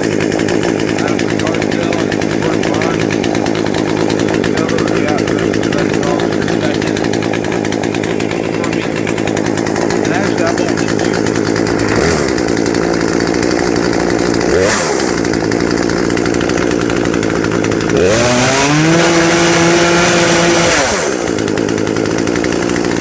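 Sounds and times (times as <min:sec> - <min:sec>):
chainsaw idling and revving: 0:00.0 - 0:23.0.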